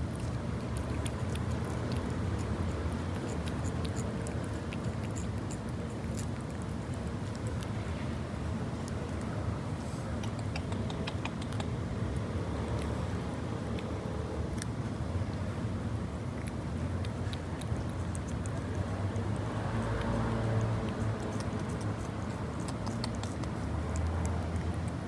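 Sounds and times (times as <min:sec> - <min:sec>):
cat tongue wet clicks: 0:00.0 - 0:14.8, 0:16.2 - 0:25.0
low rumble of traffic or wind: 0:00.0 - 0:25.0.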